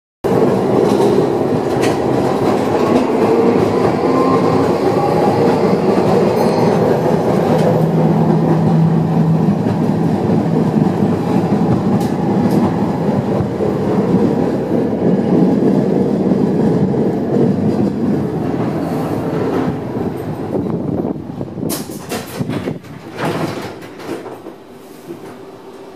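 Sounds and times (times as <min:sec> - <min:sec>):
streetcar wheels rumbling on rails: 0:00.2 - 0:25.9.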